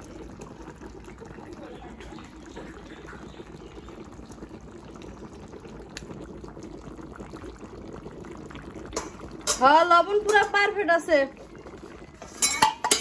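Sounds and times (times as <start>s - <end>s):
curry bubbling in a metal pan: 0.0s - 13.0s.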